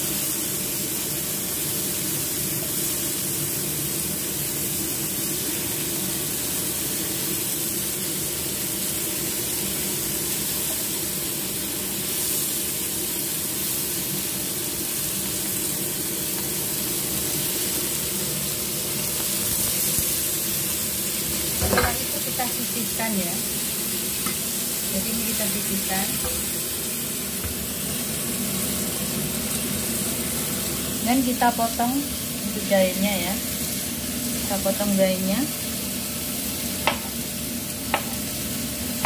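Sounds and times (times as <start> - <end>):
shellfish sizzling in oil: 0.0 - 39.0.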